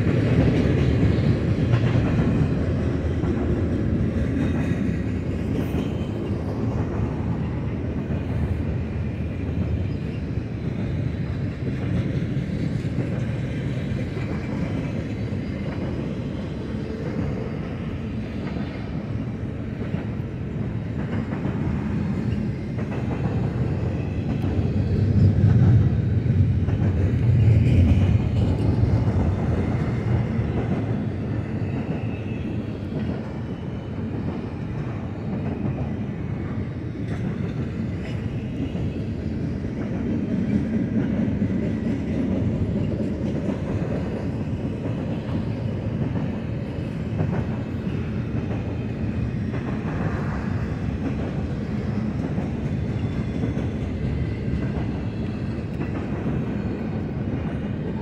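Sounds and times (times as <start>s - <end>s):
train wheels rumbling on rail: 0.0s - 58.0s
wheels clicking on rail: 0.0s - 58.0s.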